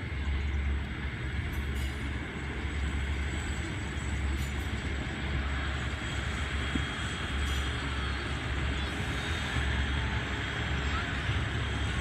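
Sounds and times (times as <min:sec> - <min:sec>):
distant diesel train rumble: 0:00.0 - 0:12.0.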